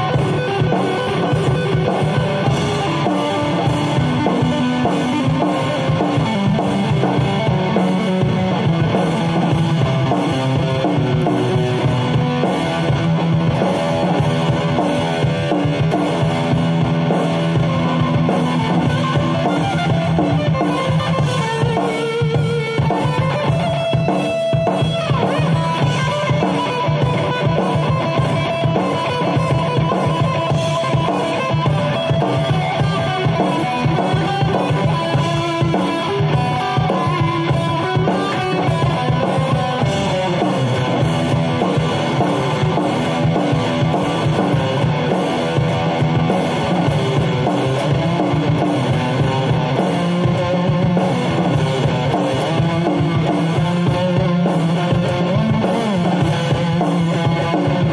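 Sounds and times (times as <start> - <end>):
electric guitar lead lines: 0.0 - 57.9
rock backing track with drums: 0.0 - 57.9.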